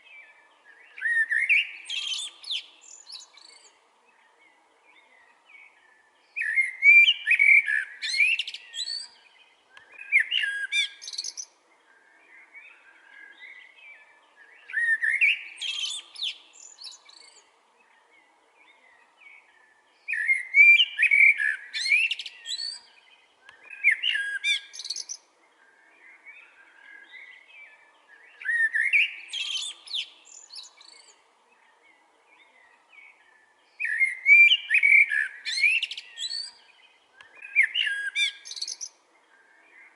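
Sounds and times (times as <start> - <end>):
blackbird singing: 0.0 - 39.9.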